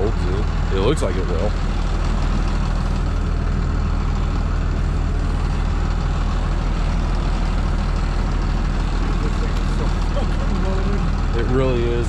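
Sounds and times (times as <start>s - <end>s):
tow truck engine idling: 0.0s - 12.0s.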